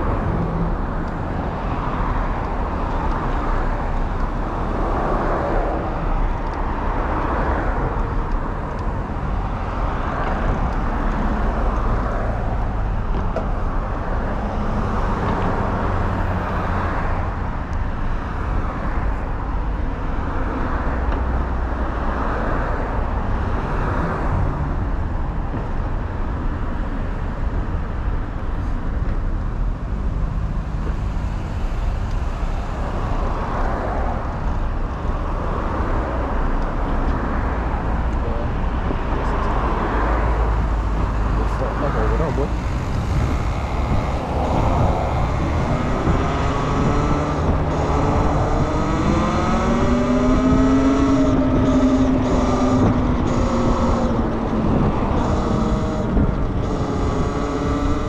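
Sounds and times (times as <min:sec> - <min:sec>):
low wind rumble on microphone: 0:00.0 - 0:58.0
rushing wind noise: 0:00.0 - 0:58.0.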